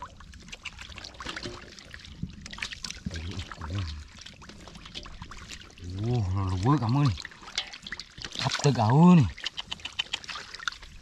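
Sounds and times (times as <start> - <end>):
water splashing by hand: 0.0 - 11.0.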